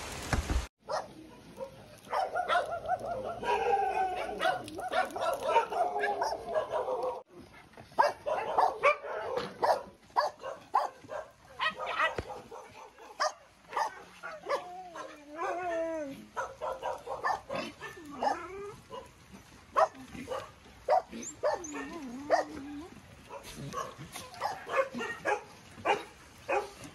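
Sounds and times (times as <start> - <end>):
dogs barking: 0.8 - 7.3, 7.9 - 26.9
dogs howling: 0.9 - 7.3, 8.0 - 19.2, 19.8 - 26.8.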